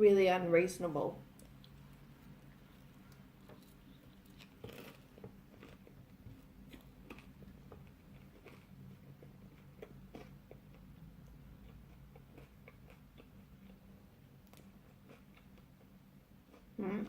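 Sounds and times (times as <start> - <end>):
low steady hum: 0.0 - 17.0
person chewing food: 1.3 - 16.8.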